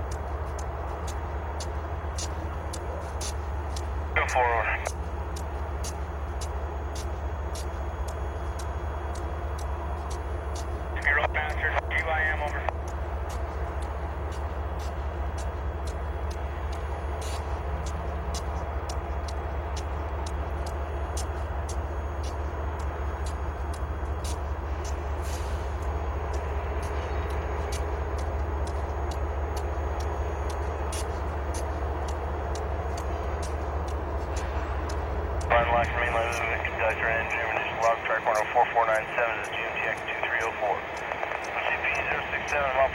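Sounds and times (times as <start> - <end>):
diesel locomotive rumbling: 0.0 - 42.9.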